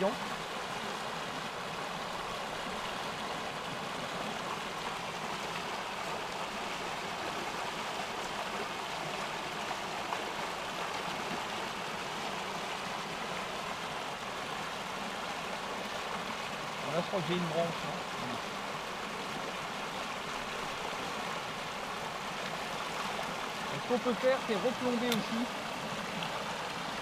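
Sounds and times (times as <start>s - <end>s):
stream rushing over shallow riffle: 0.0s - 27.0s.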